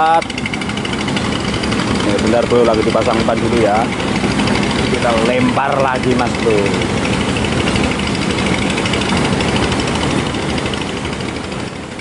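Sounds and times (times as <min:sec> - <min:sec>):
fast high pulsing: 0:00.0 - 0:12.0.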